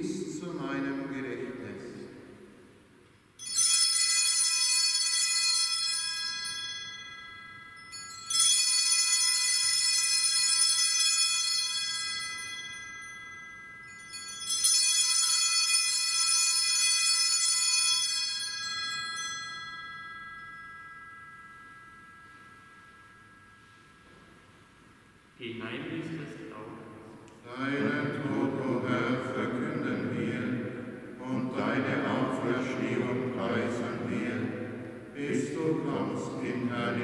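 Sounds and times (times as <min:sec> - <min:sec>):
altar bells ringing: 0:03.4 - 0:25.4, 0:26.2 - 0:37.0.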